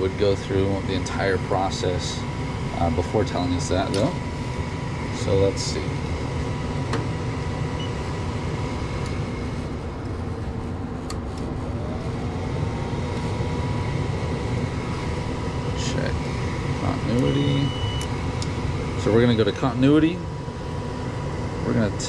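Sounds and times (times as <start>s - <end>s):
faint steady whine: 0.0s - 22.0s
furnace fan hum: 0.0s - 22.0s.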